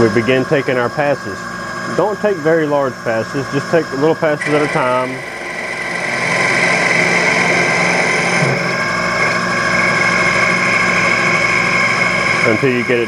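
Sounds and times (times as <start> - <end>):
lathe motor whine: 0.0 - 13.0.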